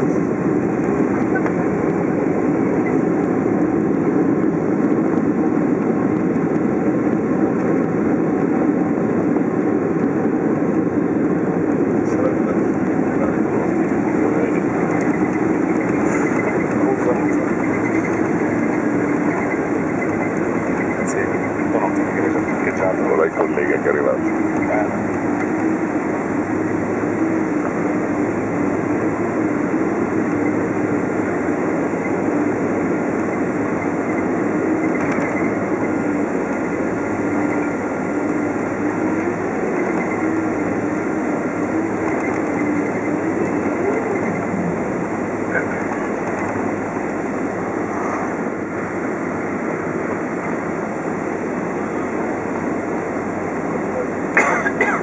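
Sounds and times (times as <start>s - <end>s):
constant cabin hum: 0.0s - 55.0s
jet engine and runway rumble: 0.0s - 55.0s.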